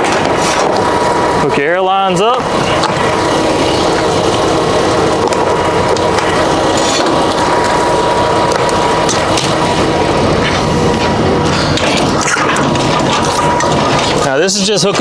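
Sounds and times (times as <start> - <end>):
air lines clicking and knocking: 0.0 - 15.0
diesel engine running: 0.0 - 15.0.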